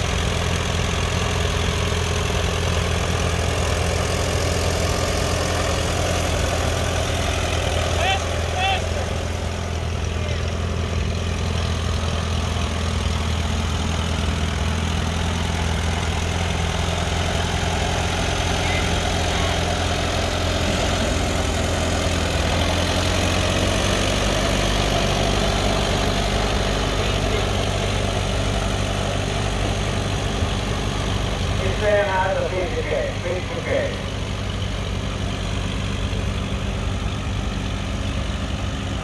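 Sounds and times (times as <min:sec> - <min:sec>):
tractor engine idling: 0:00.0 - 0:39.0.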